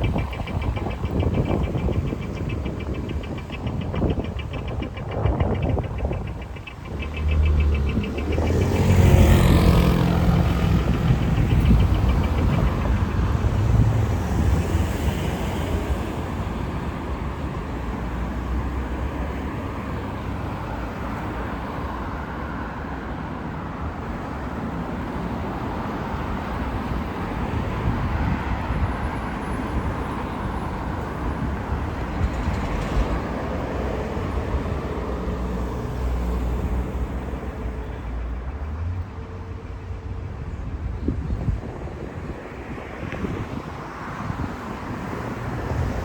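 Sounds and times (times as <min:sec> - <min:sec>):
cars driving past: 0:00.0 - 0:46.0.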